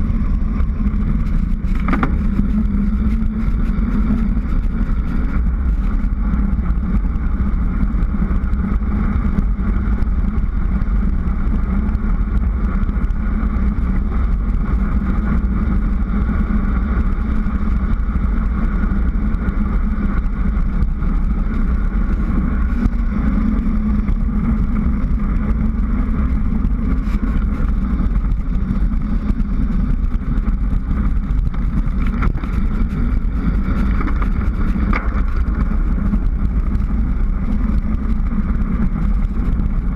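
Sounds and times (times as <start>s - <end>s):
bicycle tyre road noise: 0.0s - 39.9s
wind rumble on microphone: 0.0s - 39.9s.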